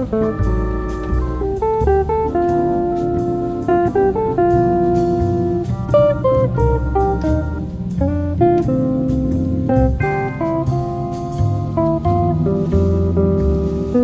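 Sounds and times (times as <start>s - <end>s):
bass line: 0.0s - 14.0s
jazzy plucked guitar melody: 0.0s - 14.0s
light steady beat: 0.0s - 14.0s.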